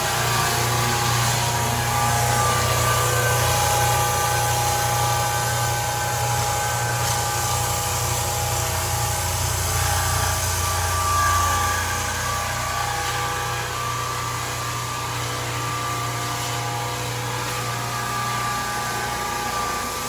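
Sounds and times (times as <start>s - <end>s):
floor sander motor hum and whine: 0.0s - 20.0s
sanding drum rushing on wood: 0.0s - 20.0s.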